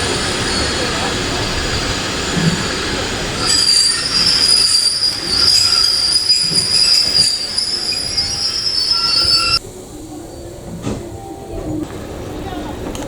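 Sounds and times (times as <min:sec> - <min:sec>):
train wheels squealing on rails: 0:00.0 - 0:11.8
train running noise: 0:00.0 - 0:13.0.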